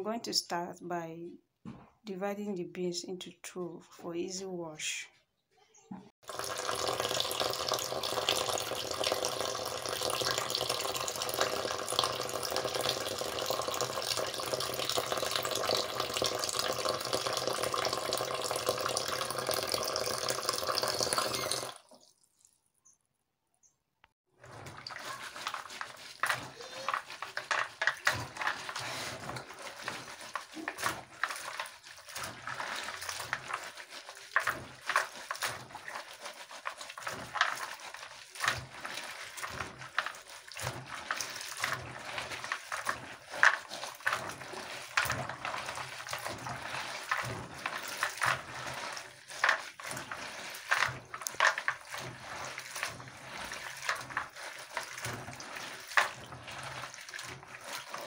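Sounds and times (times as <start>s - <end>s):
water sloshing in a bowl: 6.2s - 22.6s, 24.4s - 58.0s.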